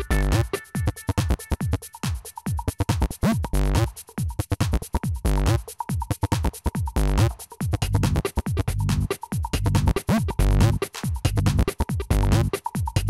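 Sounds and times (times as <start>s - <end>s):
electronic music with drum machine: 0.0s - 13.0s.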